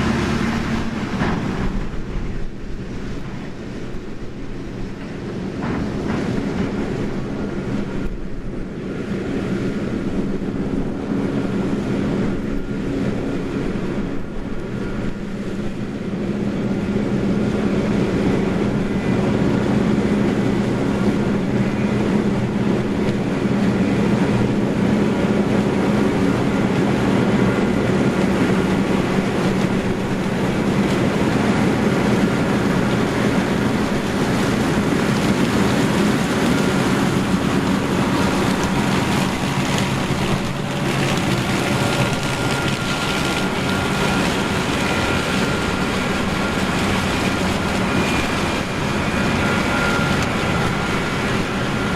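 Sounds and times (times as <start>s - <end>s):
diesel machinery running under load: 0.0s - 51.9s.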